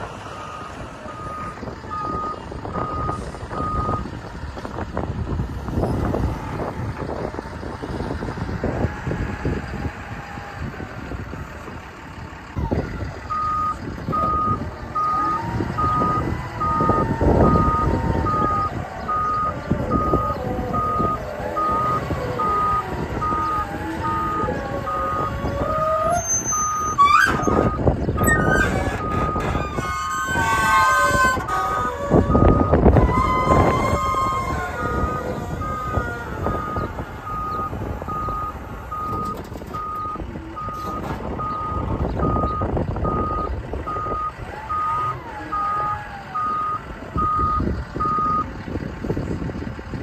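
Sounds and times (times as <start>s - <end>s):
wheel loader engine running: 0.0s - 50.0s.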